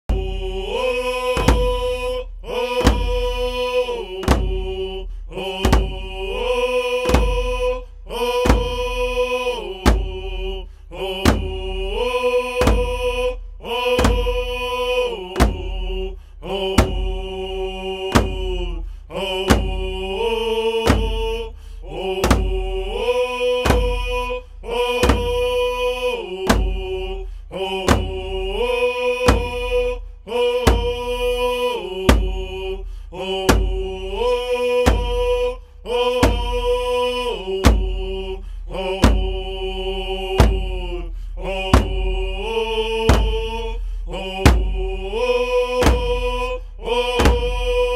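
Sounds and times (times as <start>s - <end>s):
steady drum beat: 0.0s - 47.9s.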